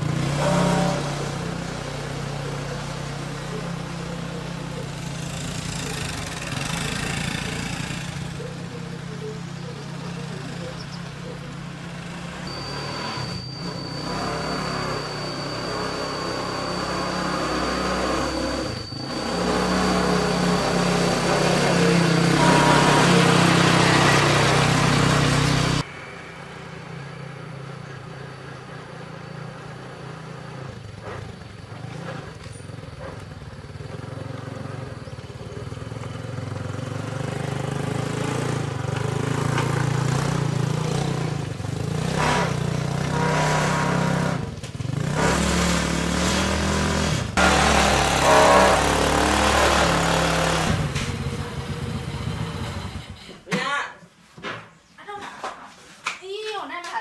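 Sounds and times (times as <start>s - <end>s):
vehicle engine running: 0.0s - 53.3s.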